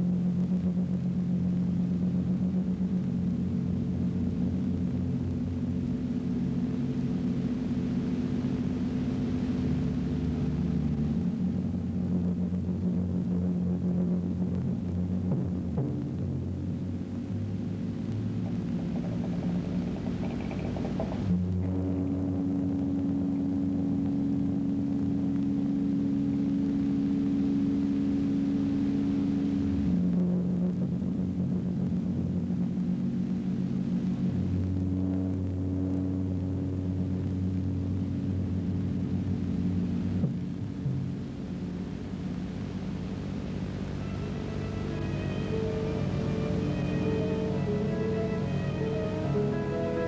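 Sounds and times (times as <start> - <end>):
low electronic drone: 0.0 - 50.0
low sustained music chord: 0.0 - 50.0.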